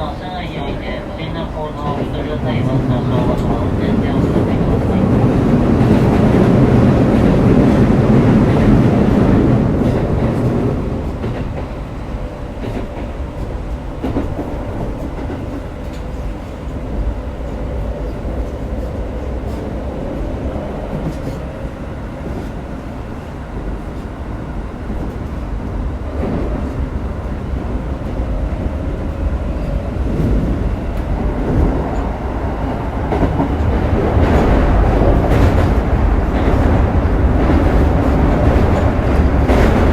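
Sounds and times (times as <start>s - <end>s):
rail joint clicks: 0.0s - 39.9s
wheels rumbling on rail: 0.0s - 39.9s.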